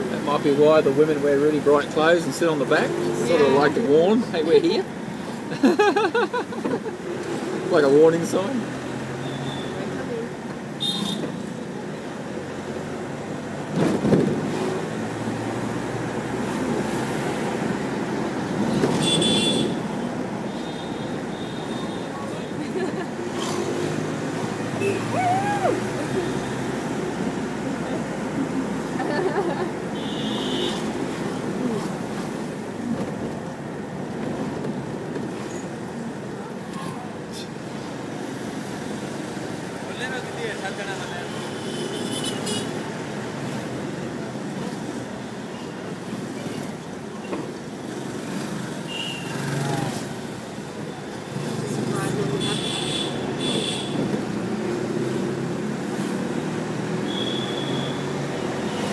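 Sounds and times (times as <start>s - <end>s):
road and engine noise in car: 0.0s - 58.9s.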